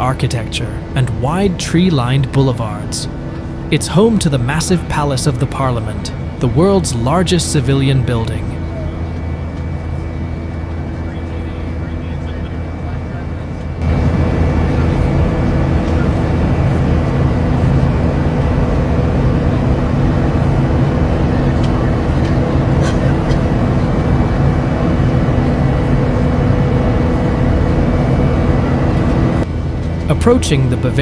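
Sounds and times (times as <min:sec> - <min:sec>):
airliner cabin roar: 0:00.0 - 0:31.0
low engine hum: 0:00.0 - 0:31.0.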